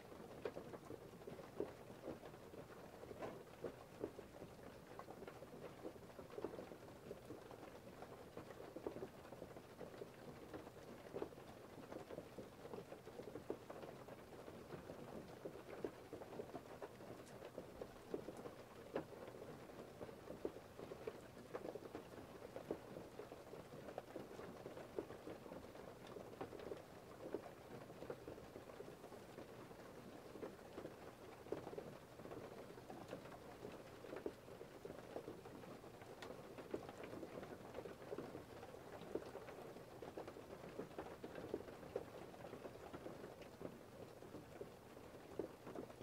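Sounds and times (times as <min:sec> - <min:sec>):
rain pattering on a surface: 0:00.0 - 0:46.0.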